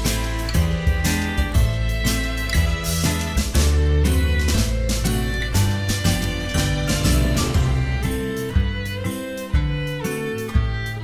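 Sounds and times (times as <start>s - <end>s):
plucked guitar tune with beat: 0.0s - 11.0s.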